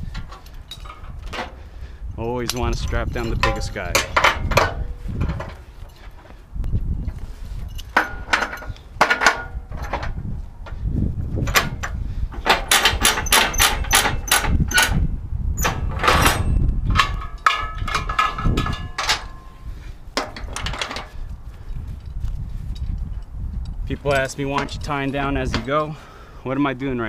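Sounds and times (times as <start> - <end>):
metal clanks and clicks: 0.0 - 1.6, 2.4 - 6.3, 7.1 - 10.8, 11.4 - 15.0, 15.6 - 21.2, 22.8 - 26.0.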